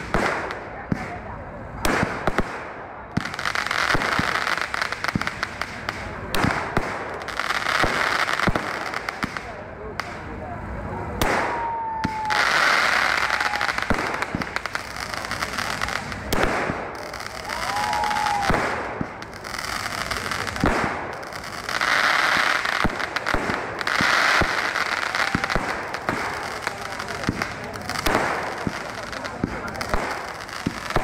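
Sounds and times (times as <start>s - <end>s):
fireworks hissing and crackling: 0.0s - 31.0s.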